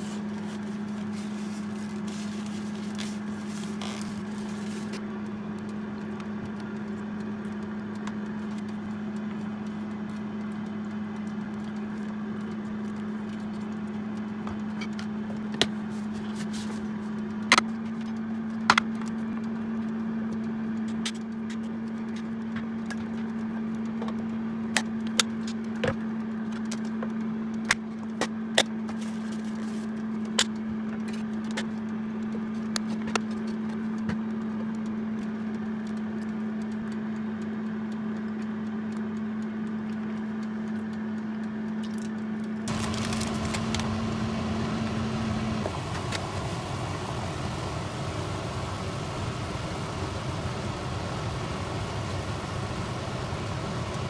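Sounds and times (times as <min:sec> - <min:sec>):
low appliance hum: 0:00.0 - 0:54.0.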